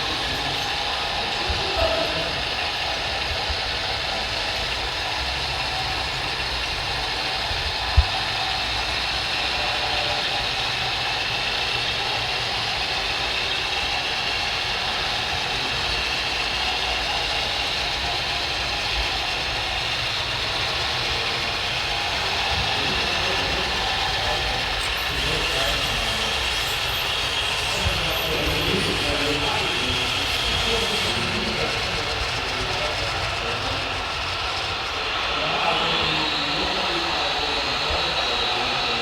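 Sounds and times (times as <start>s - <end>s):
small electric motors whirring: 0.0s - 39.0s.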